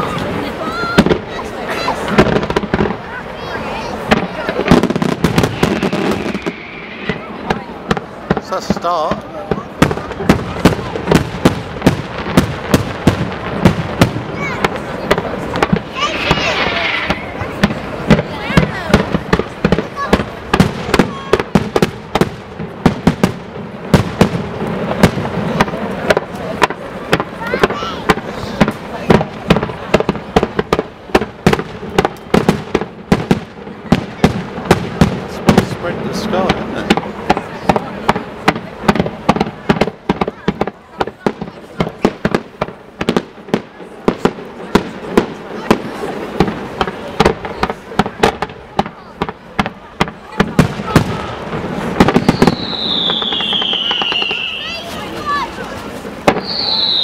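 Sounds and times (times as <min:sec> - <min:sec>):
fireworks bursting bangs: 0:00.0 - 0:57.0.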